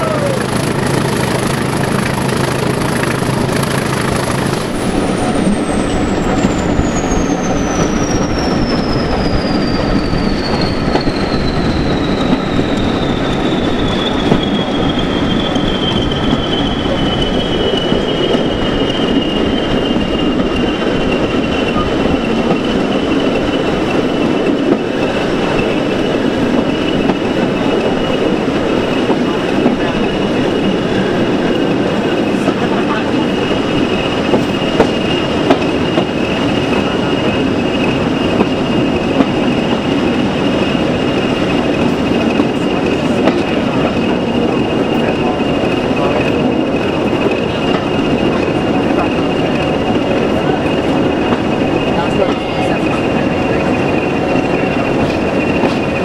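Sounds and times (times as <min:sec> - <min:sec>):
diesel locomotive engine: 0:00.0 - 0:56.0
train wheels clattering on rails: 0:00.0 - 0:56.0.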